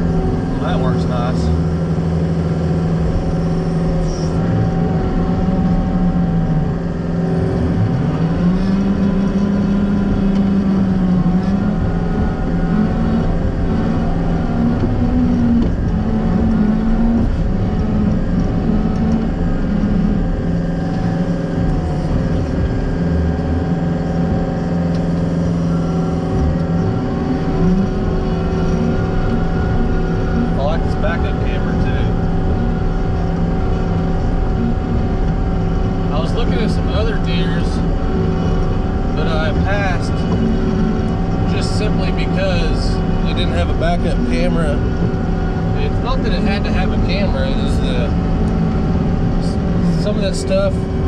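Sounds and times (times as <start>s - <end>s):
diesel engine revving: 0.0s - 51.0s.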